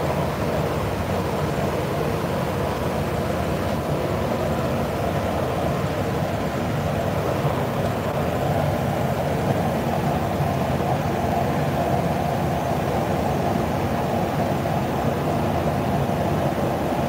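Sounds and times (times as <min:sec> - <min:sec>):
ventilation fan running: 0:00.0 - 0:17.0.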